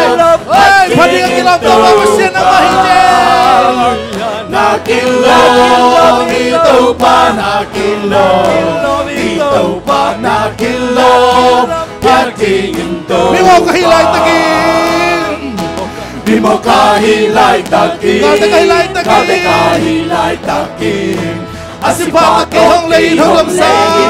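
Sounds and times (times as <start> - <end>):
backing singers: 0.0 - 24.0
church band playing: 0.0 - 24.0
man singing lead: 0.0 - 24.0.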